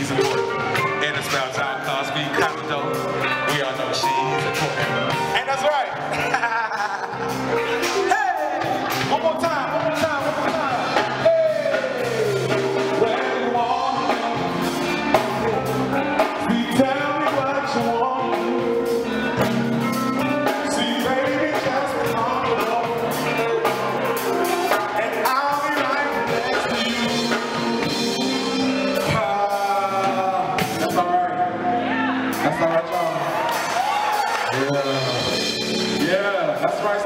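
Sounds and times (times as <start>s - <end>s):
man singing: 0.0s - 33.0s
keyboards: 0.0s - 37.0s.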